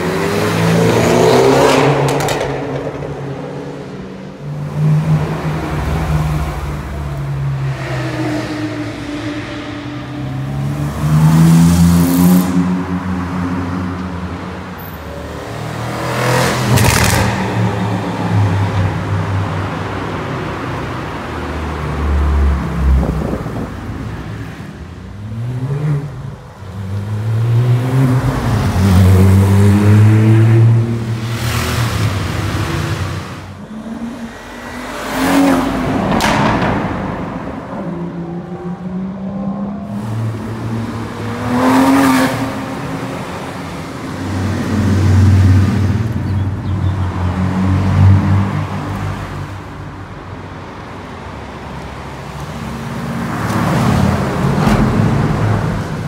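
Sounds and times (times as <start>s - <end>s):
loud car passes: 0.0s - 56.0s
sports cars accelerating: 0.0s - 56.0s.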